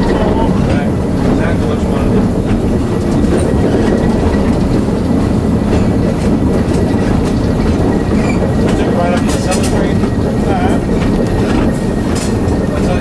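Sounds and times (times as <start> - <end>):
diesel locomotive running: 0.0 - 13.0
wheels clicking over rails: 0.0 - 13.0.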